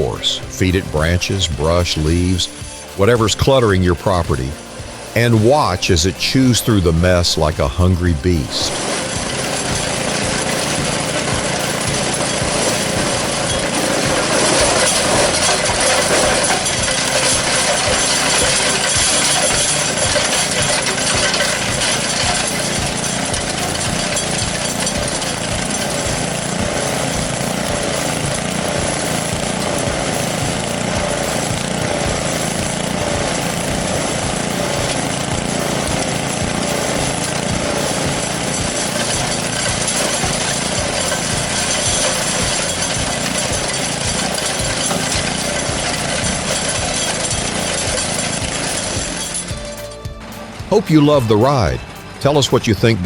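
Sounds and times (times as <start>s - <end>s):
chipper shredder running: 0.0s - 53.0s.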